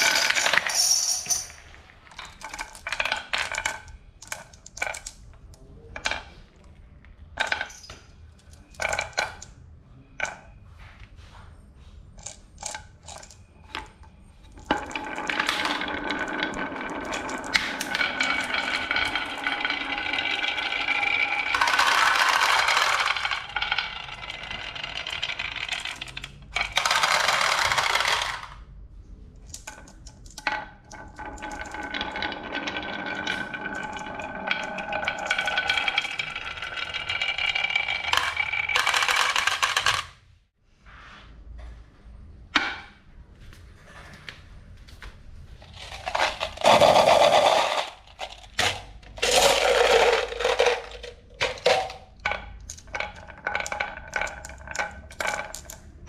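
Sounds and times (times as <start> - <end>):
marbles rolling down wooden track: 0.0 - 5.2, 6.0 - 6.3, 7.4 - 9.6, 12.2 - 28.6, 29.5 - 40.2, 45.7 - 56.0.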